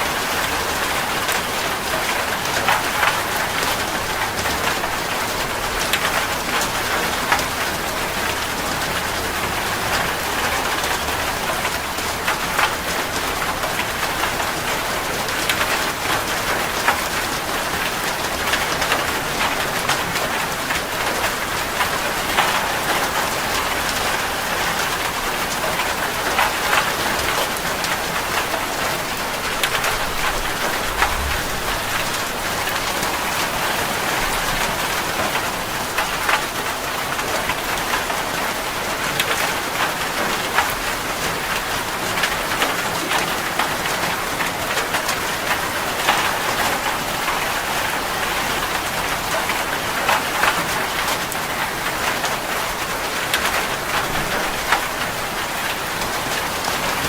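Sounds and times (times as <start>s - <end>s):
raindrops ticking on a surface: 0.0s - 57.0s
steady rain: 0.0s - 57.0s.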